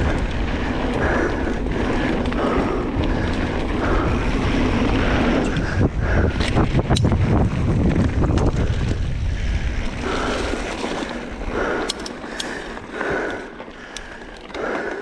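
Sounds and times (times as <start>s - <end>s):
wind buffeting microphone: 0.0s - 13.0s
bike clicks and rattles: 0.0s - 15.0s.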